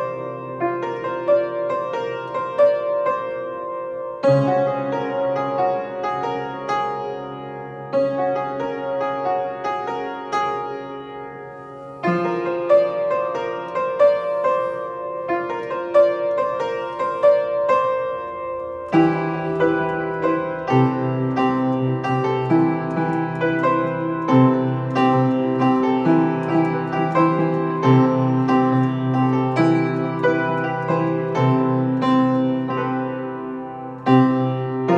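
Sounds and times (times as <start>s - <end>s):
deep piano chords: 0.0s - 34.9s
piano melody: 0.0s - 34.9s.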